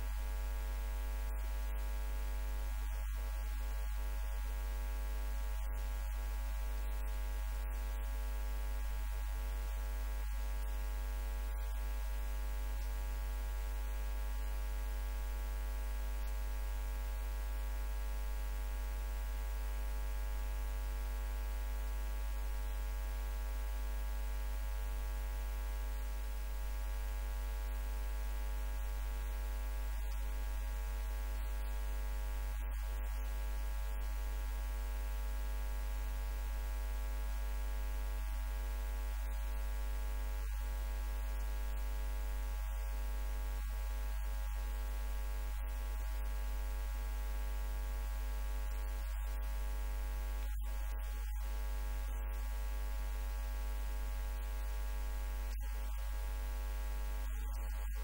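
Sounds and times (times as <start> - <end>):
electrical mains hum: 0.0 - 58.0.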